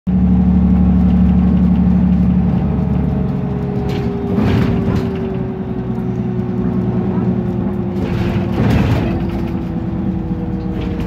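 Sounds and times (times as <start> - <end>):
bus engine drone: 0.1 - 11.0.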